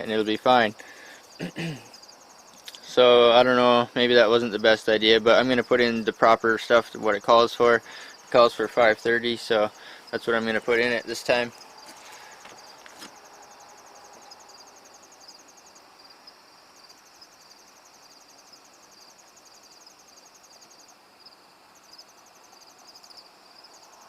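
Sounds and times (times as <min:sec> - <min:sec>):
faint steady hiss: 0:00.0 - 0:24.0
insects chirping trills: 0:00.0 - 0:24.0.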